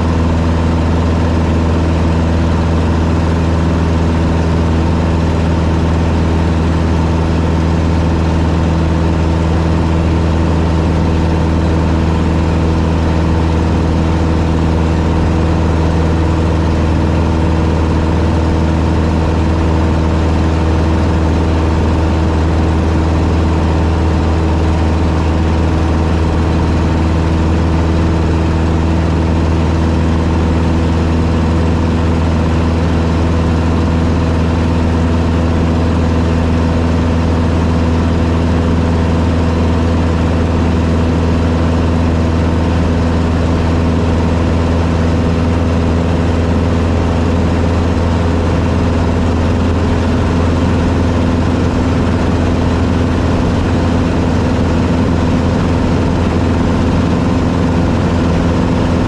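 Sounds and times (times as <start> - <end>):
plane engine droning: 0.0 - 59.0.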